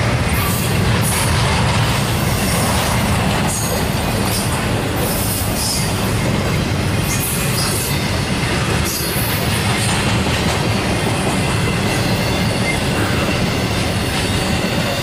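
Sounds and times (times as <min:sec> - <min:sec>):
steel train wheels rumbling on rail: 0:00.0 - 0:15.0.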